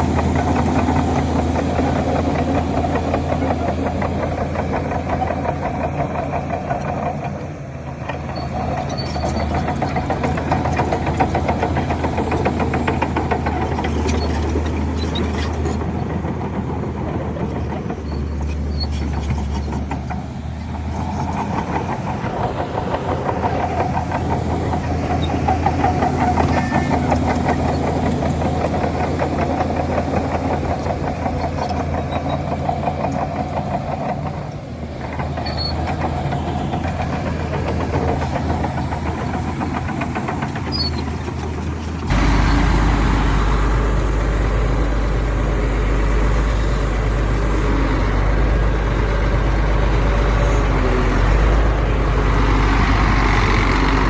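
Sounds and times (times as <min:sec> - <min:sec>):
heavy diesel engines under load: 0:00.0 - 0:54.0.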